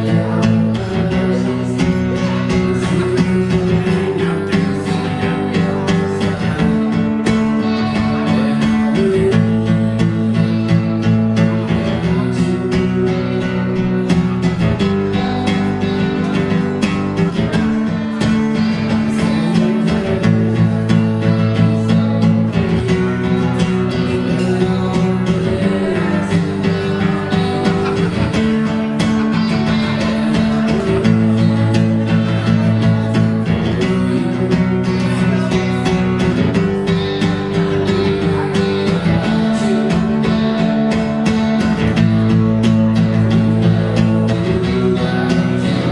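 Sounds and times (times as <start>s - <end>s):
electric guitar: 0.0s - 45.9s
strummed acoustic guitar: 0.0s - 45.9s.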